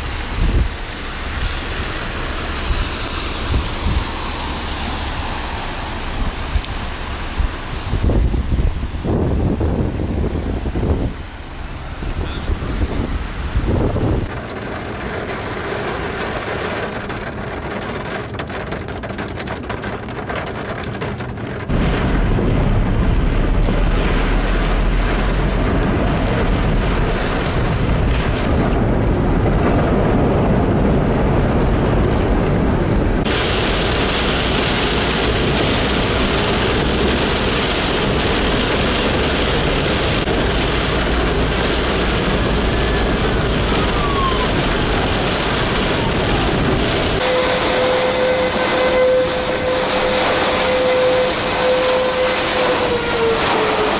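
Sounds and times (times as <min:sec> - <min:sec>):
rain on car roof: 0:00.0 - 0:53.9.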